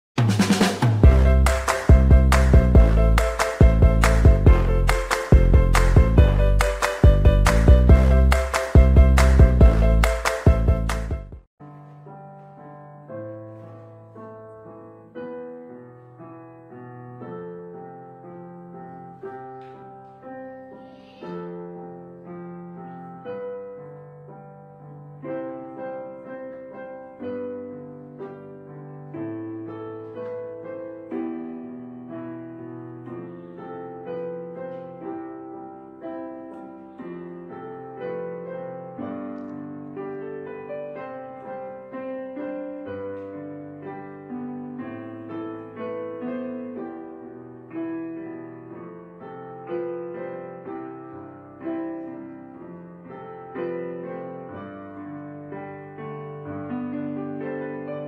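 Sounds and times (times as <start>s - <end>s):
piano music: 0.2s - 58.0s.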